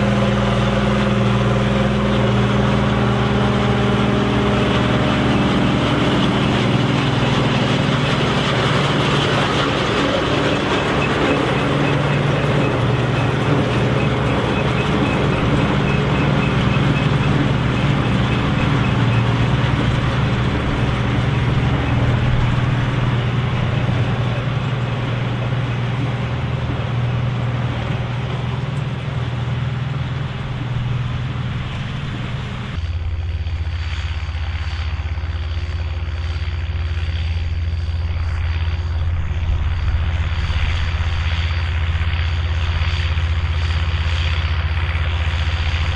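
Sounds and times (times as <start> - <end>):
turbo whistling: 0.0 - 39.4
diesel tractor engine running: 0.0 - 45.9.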